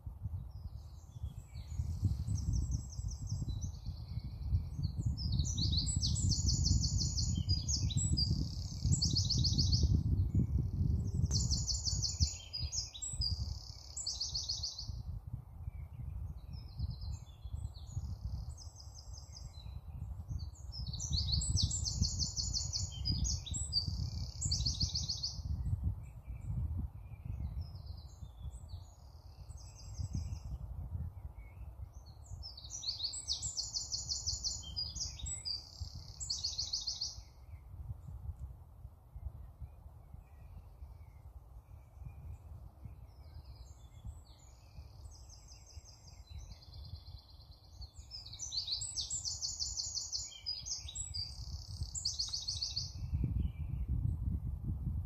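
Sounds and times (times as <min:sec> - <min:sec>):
songbird trilling song: 0:00.3 - 0:38.5, 0:39.2 - 0:54.4.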